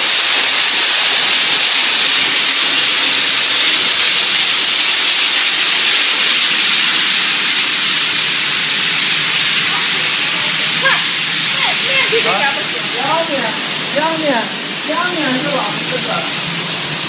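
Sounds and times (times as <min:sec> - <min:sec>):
hiss of air and spray: 0:00.0 - 0:17.0.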